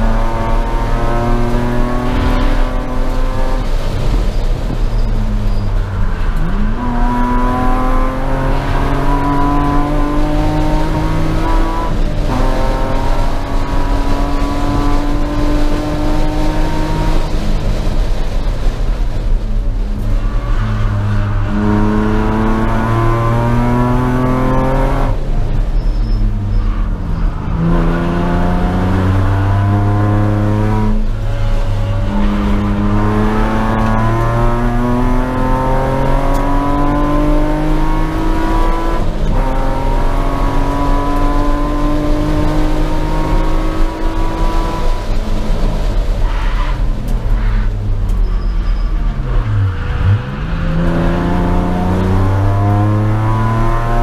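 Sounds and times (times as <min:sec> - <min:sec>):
race car engine revving through gears: 0:00.0 - 0:18.8, 0:20.1 - 0:54.0.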